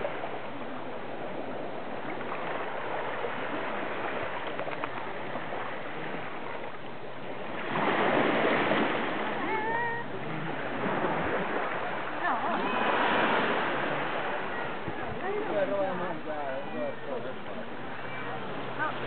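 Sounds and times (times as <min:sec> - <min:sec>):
small waves on shore: 0:00.0 - 0:19.0.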